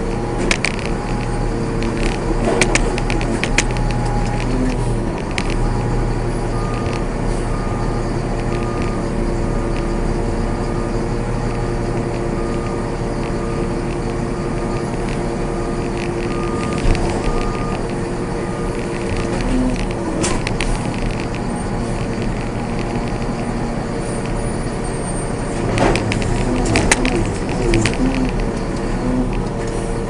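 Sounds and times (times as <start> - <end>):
trash compactor machine hum: 0.0 - 30.0.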